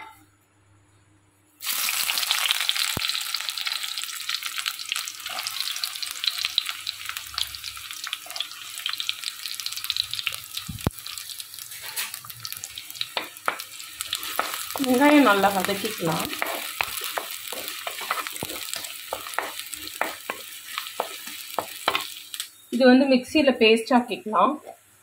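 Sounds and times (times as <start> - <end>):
onions sizzling in hot oil: 1.6 - 22.7.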